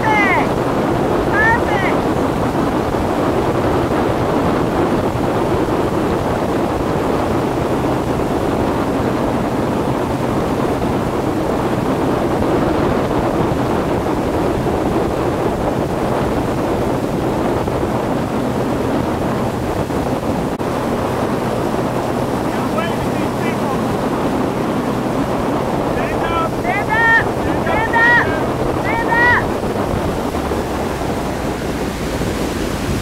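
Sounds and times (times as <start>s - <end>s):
boat engine hum: 0.0s - 33.0s
rushing spraying water: 0.0s - 33.0s
wind buffeting microphone: 0.0s - 33.0s.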